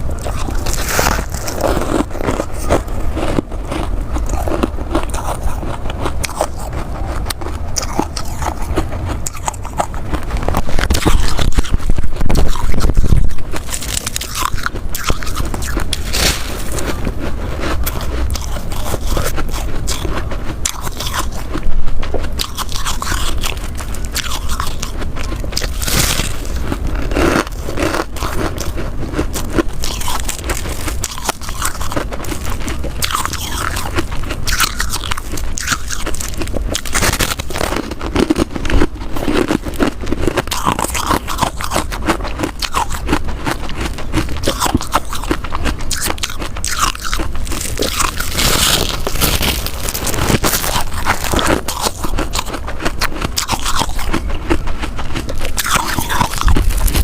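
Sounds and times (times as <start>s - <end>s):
crunching and chewing ice: 0.0s - 57.0s.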